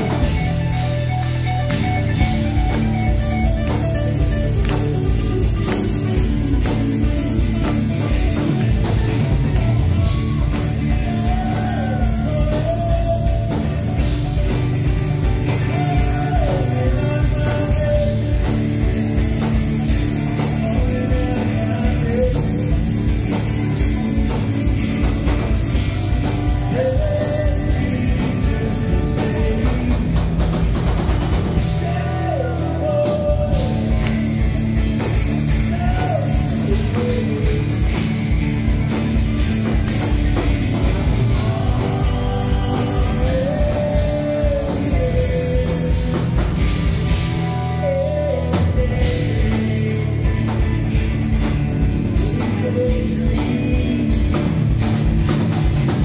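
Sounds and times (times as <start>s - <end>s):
drum kit beat: 0.0s - 56.0s
electric guitar: 0.0s - 56.0s
man singing lead vocals: 3.7s - 55.3s.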